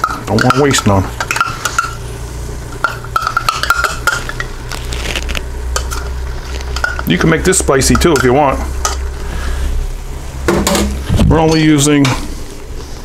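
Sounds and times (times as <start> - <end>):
light sizzling in pot: 0.0 - 13.0.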